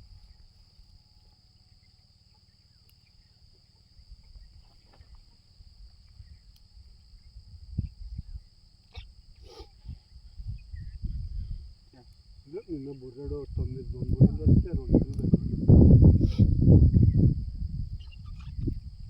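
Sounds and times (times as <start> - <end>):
crickets droning: 0.0 - 19.0.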